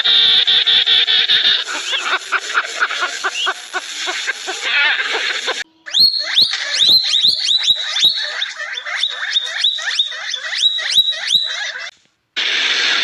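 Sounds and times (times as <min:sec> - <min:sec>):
animal giving high calls: 0:00.0 - 0:11.9.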